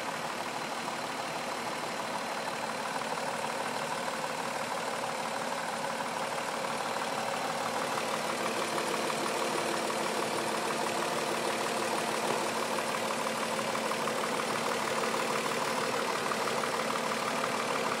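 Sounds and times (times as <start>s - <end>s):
car engine idling rough: 0.0s - 18.0s
low engine knocking: 0.2s - 18.0s.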